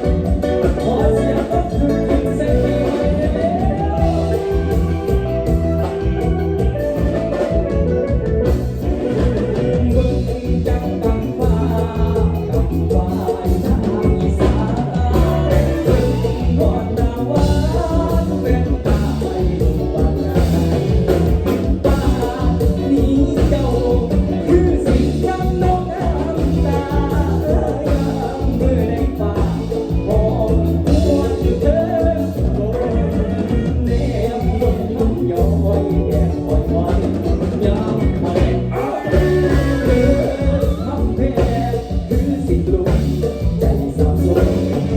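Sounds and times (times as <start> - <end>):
bass and drum beat: 0.0 - 44.9
live band playing dance music: 0.0 - 44.9
person singing: 0.0 - 44.9.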